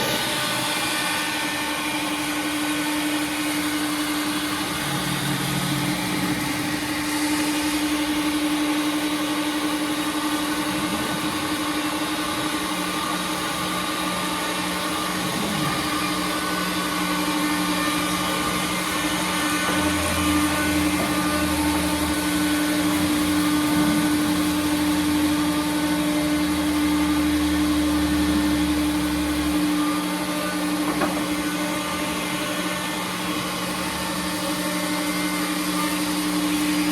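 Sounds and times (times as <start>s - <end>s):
cnc router machine hum: 0.0s - 36.9s.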